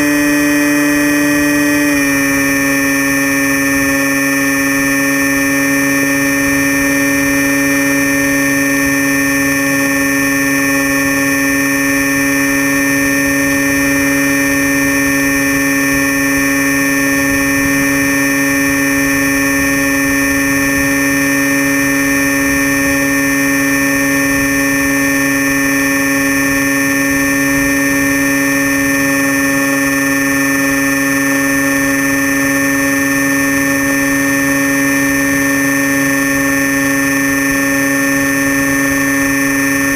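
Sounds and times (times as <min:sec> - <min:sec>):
rc plane motor whine: 0:00.0 - 0:39.9.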